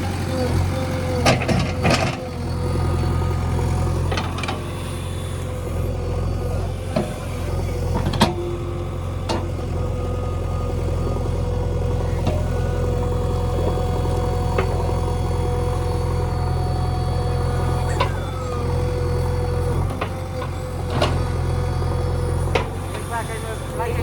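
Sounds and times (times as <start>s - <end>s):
diesel engine humming and whining: 0.0s - 24.0s.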